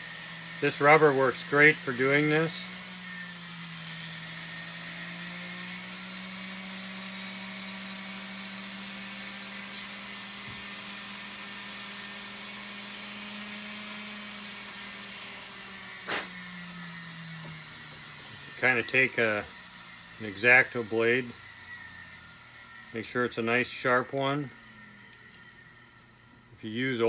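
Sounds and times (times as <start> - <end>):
rotary tool grinding rubber: 0.0 - 27.0.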